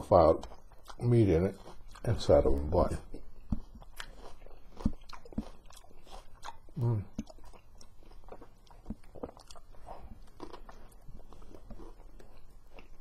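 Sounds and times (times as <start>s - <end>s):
person chewing sandwich: 0.4s - 2.4s, 3.0s - 13.0s.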